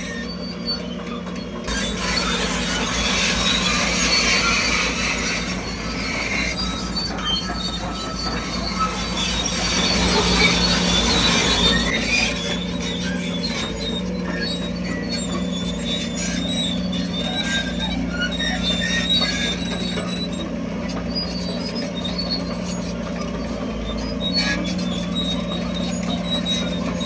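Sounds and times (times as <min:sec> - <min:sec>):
bulldozer diesel engine running: 0:00.0 - 0:27.0
steel tracks squealing: 0:00.0 - 0:27.0.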